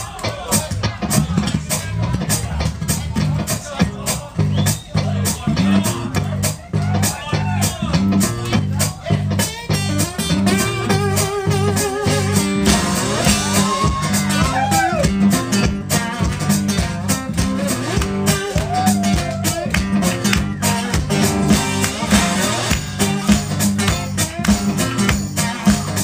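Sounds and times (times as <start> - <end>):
percussive beat: 0.0 - 26.0
slide blues guitar: 0.0 - 26.0.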